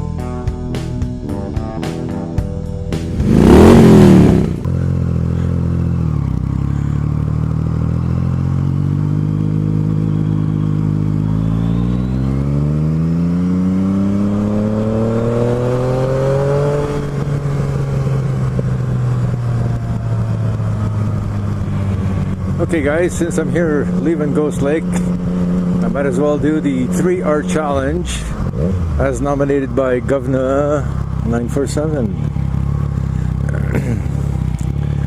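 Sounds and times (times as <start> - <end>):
motorcycle engine pulling away: 3.0 - 35.0.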